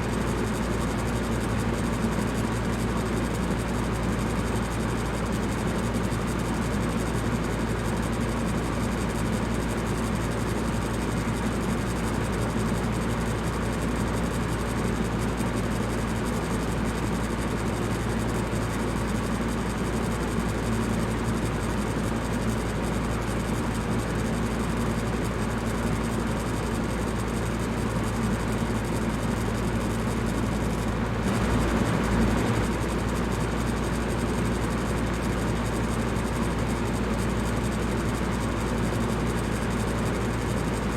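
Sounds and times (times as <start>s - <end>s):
electric fan running: 0.0s - 40.9s.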